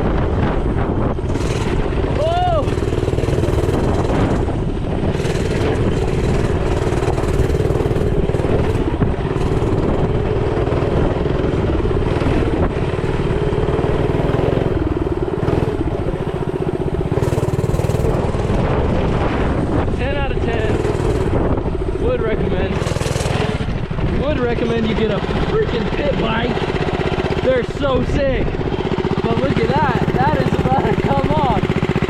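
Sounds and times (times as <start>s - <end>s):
motorbike engine running: 0.0s - 32.0s
wind noise on microphone: 0.0s - 32.0s.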